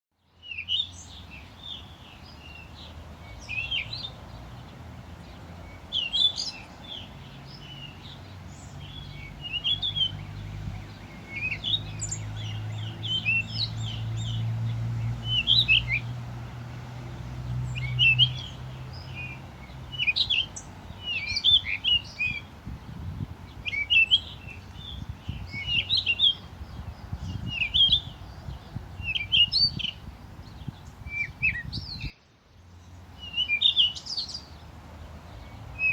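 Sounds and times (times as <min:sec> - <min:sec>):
songbirds chirping and trilling: 0:00.1 - 0:35.9.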